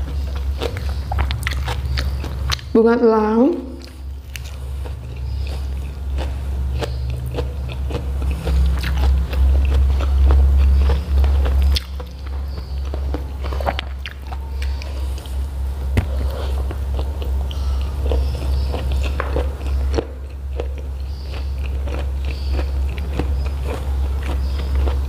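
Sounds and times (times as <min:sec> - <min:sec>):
close chewing and mouth clicks: 0:00.0 - 0:02.8, 0:03.7 - 0:25.0
steady low hum: 0:00.0 - 0:25.0.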